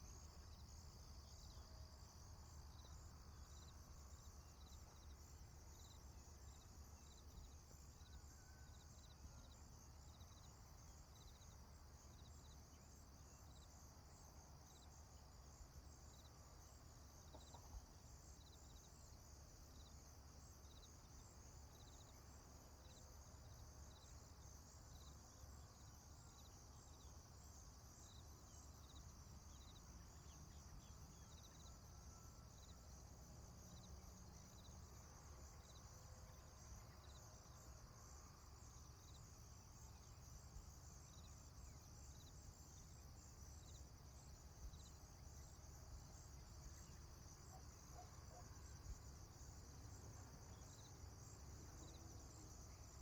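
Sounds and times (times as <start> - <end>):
insects chirping in pulses: 0.0 - 53.0.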